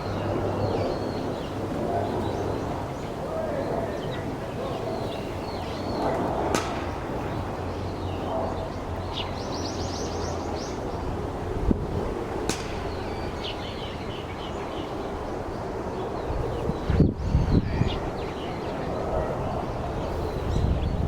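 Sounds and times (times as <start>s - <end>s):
sparrows chirping: 0.0s - 11.3s, 12.4s - 21.0s.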